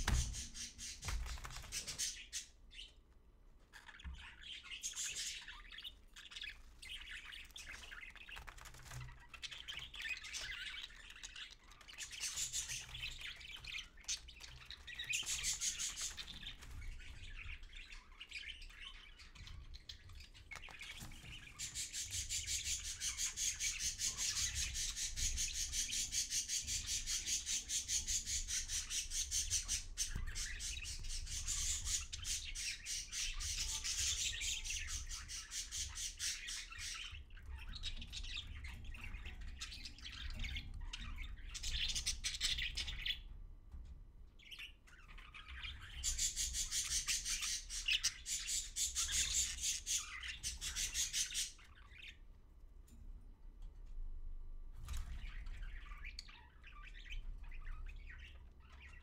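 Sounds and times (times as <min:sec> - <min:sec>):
budgerigar chirping and chattering: 0:03.7 - 0:43.2, 0:44.5 - 0:52.2.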